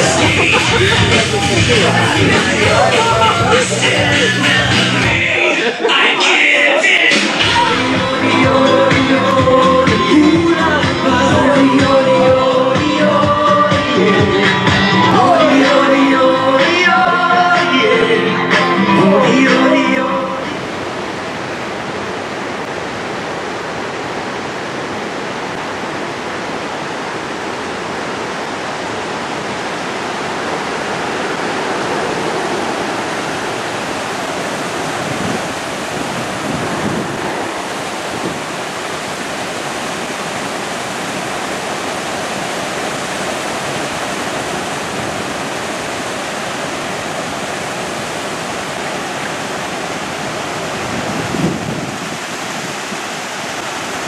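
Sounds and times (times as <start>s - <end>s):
fountain water splashing: 0.0s - 18.6s, 19.4s - 54.0s.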